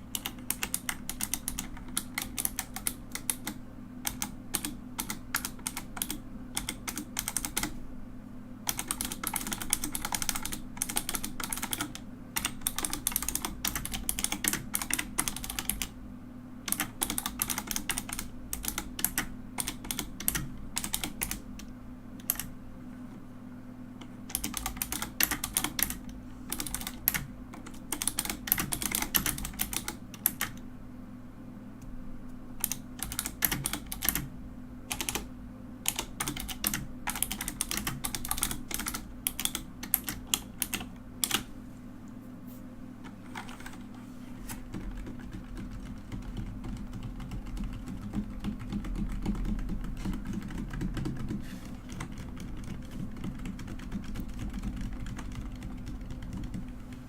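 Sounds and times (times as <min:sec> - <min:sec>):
mechanical keyboard typing: 0:00.1 - 0:07.8, 0:08.6 - 0:16.0, 0:16.6 - 0:22.5, 0:24.0 - 0:30.6, 0:32.6 - 0:34.3, 0:34.9 - 0:41.5, 0:43.0 - 0:57.0.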